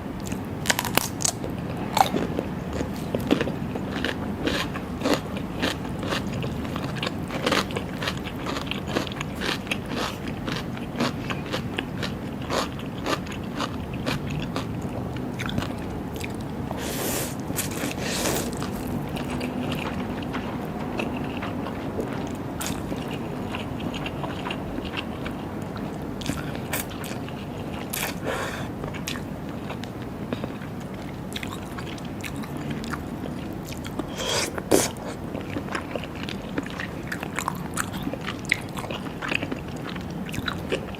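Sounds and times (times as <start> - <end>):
biting and chewing seafood: 0.2 - 40.9.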